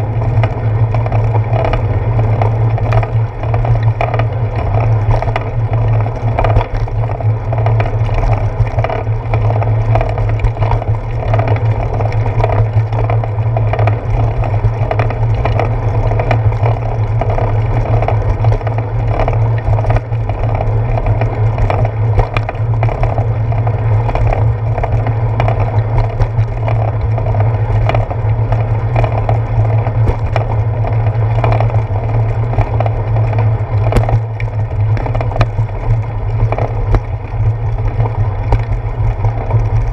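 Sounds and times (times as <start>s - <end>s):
bicycle rattles over bumps: 0.0s - 39.9s
bicycle tyres rumbling on concrete: 0.0s - 39.9s.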